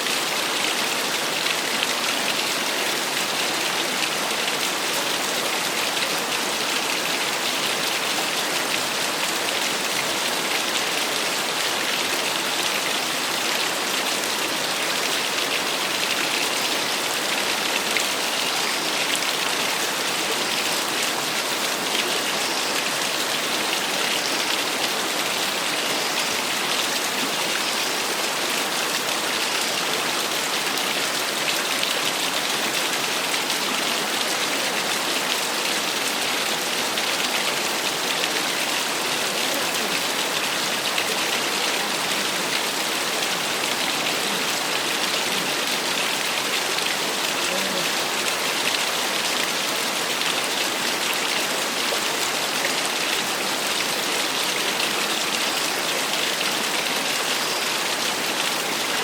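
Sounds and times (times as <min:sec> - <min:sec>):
waterfall splashing and rushing: 0:00.0 - 0:59.0.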